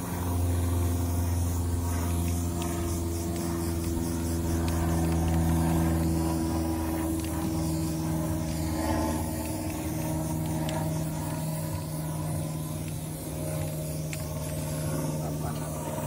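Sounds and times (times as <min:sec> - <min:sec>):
aerosol spray can hissing: 0:00.8 - 0:16.0.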